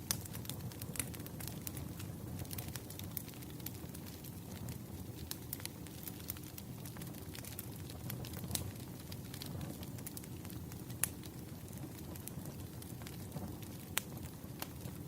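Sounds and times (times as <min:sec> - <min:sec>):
burning logs popping: 0:00.0 - 0:15.0
wood fire crackling: 0:00.0 - 0:15.0.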